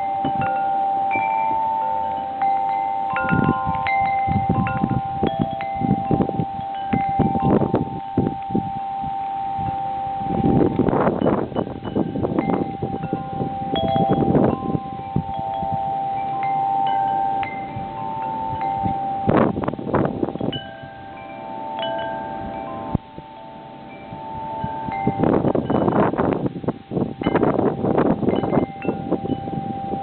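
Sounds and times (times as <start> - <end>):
wind chimes ringing: 0.0 - 30.0
wind noise on microphone: 0.0 - 30.0.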